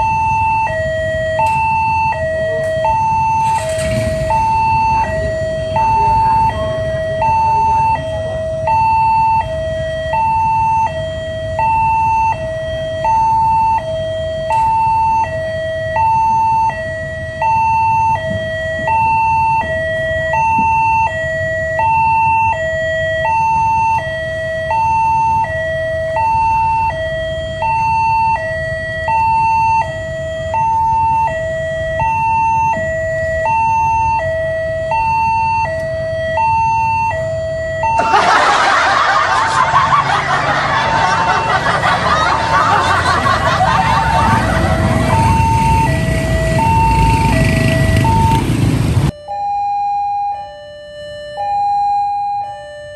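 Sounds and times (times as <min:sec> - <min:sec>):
two-tone level crossing siren: 0:00.0 - 0:52.9.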